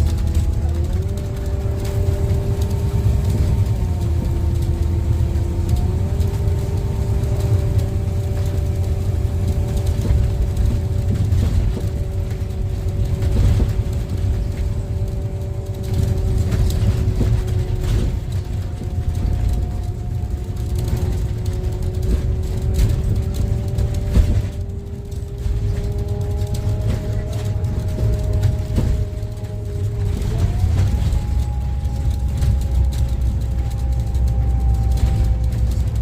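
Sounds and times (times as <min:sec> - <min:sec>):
bus engine and road rumble: 0:00.0 - 0:36.0
steady whine: 0:00.0 - 0:36.0.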